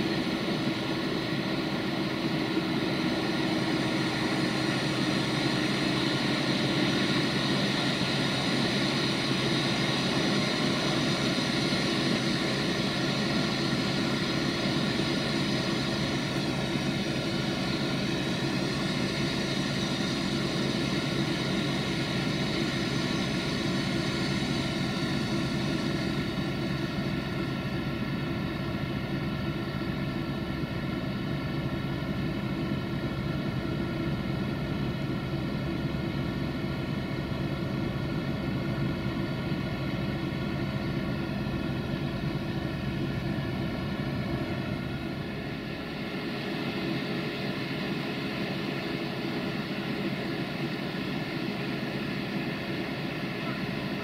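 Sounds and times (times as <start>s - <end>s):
tractor engine drone: 0.0s - 54.0s.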